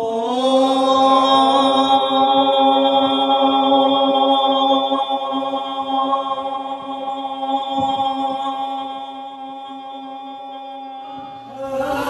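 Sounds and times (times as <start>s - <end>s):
voices chanting a long note: 0.0s - 12.0s.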